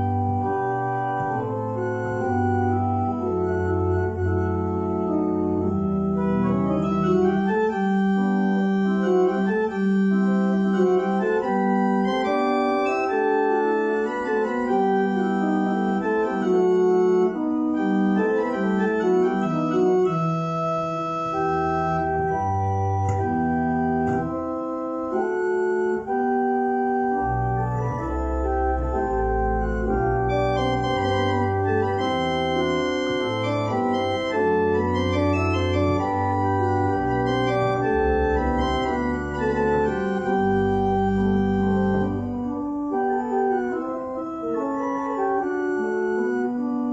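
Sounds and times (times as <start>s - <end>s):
church organ chords: 0.0s - 46.9s.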